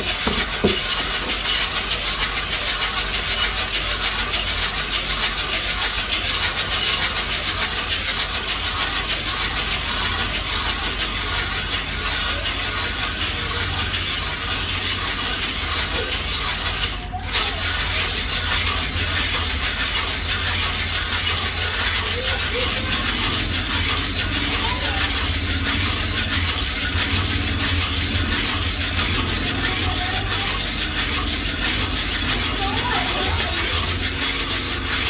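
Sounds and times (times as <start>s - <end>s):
coffee beans rattling in drum: 0.0s - 35.0s
gas burner rumble: 0.0s - 35.0s.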